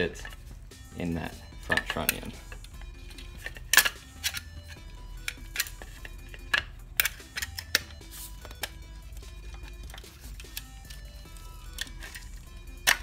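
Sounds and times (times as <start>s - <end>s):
rifle parts clicking and knocking: 1.7s - 13.0s.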